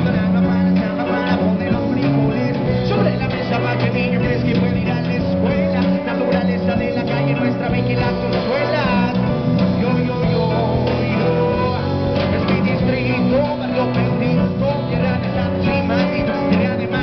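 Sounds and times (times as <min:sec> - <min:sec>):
bass guitar: 0:00.0 - 0:17.0
electric guitar: 0:00.0 - 0:17.0
person singing: 0:00.0 - 0:17.0.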